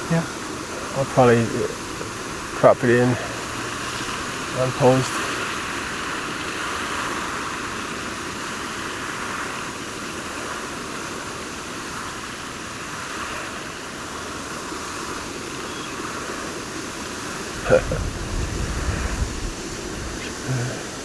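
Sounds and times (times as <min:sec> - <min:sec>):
lawn sprinkler spraying water: 0:00.0 - 0:21.0.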